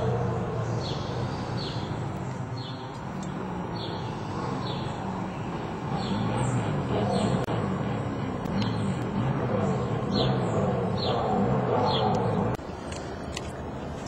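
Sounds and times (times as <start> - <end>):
bird chirping: 0.0 - 7.5, 8.5 - 12.5
steady low hum: 0.0 - 14.0.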